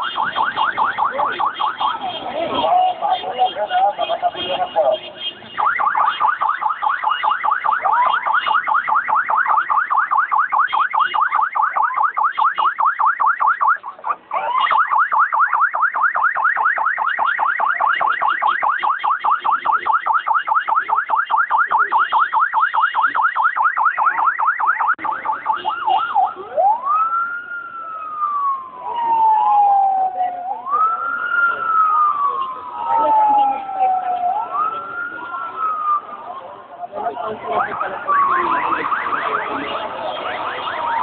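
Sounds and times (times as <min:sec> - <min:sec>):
police siren yelp and wail: 0:00.0 - 0:41.0.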